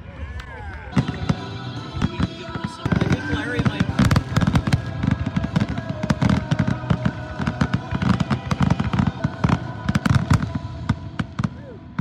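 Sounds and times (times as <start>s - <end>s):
fireworks booms and cracks: 0.9s - 12.0s.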